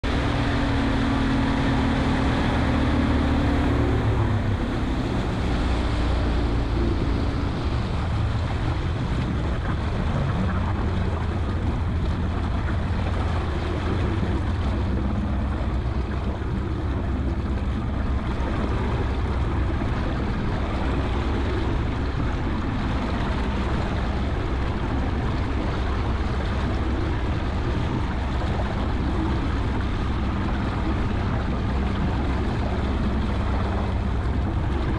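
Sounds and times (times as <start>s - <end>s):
outboard motor running: 0.0s - 34.9s
wind and water rushing: 0.0s - 34.9s.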